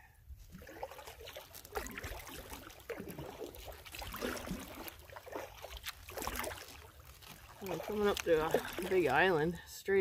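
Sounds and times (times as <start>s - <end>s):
paddle pulling through water: 0.3s - 9.7s
water dripping off paddle: 0.6s - 9.5s.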